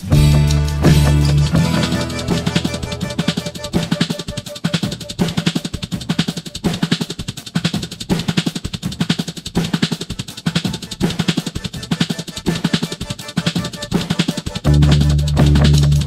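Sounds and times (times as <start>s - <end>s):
drum-led music with bass: 0.0s - 16.0s.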